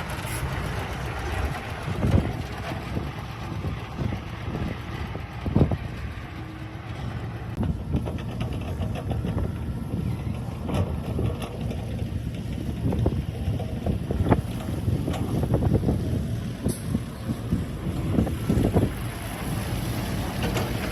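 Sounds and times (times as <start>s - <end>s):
wind on microphone: 0.0s - 6.4s, 7.5s - 20.9s
heavy engine rumbling: 0.0s - 20.9s.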